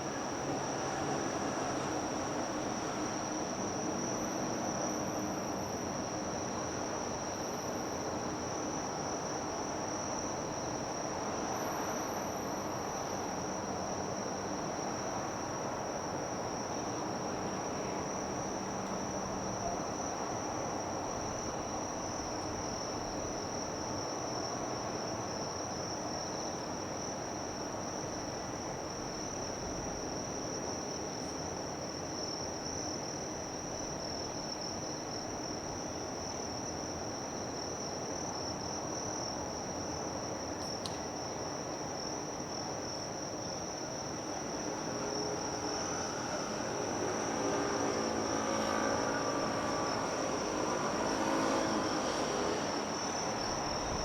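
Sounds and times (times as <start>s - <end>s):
insects chirring: 3.3s - 54.0s.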